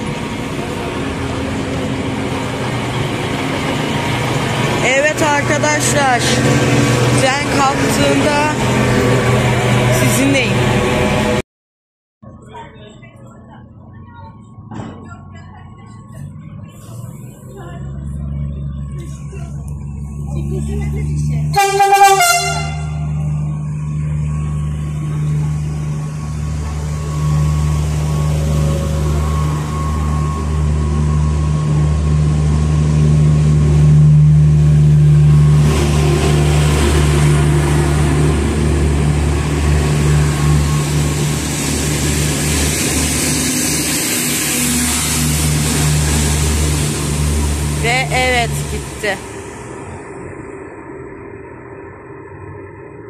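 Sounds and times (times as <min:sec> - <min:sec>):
railcar diesel engine drone: 0:00.0 - 0:11.4, 0:12.2 - 0:53.0.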